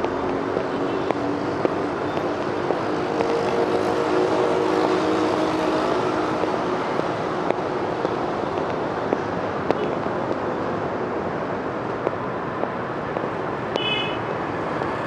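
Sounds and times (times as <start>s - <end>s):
passing traffic: 0.0s - 15.0s.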